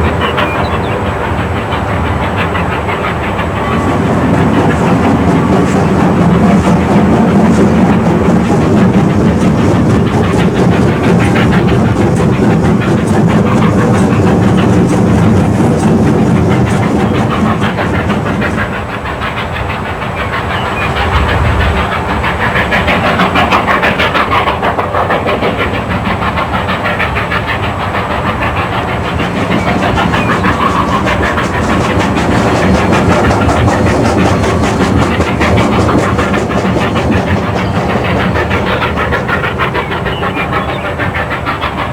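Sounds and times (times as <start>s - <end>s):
steam train running: 0.0s - 41.9s.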